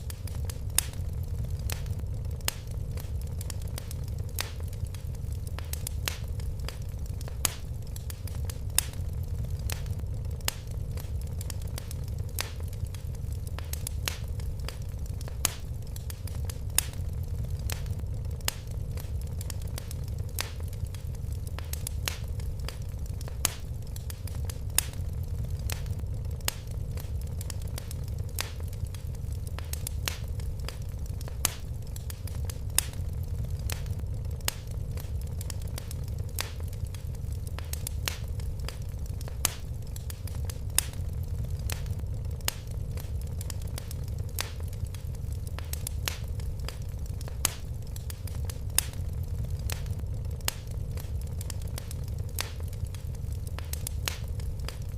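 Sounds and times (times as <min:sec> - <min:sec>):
low rumble of burning fire: 0:00.0 - 0:54.9
wood fire crackling: 0:00.0 - 0:54.9.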